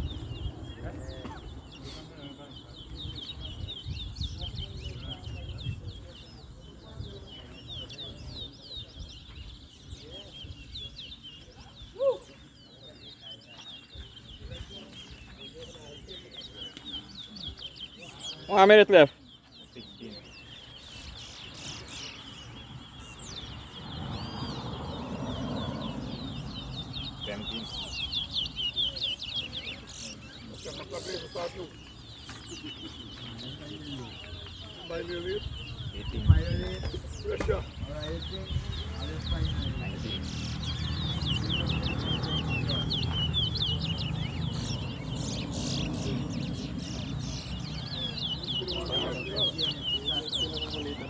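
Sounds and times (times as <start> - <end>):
finches singing whistled notes: 0.0 - 51.0
murmur of voices: 0.0 - 51.0.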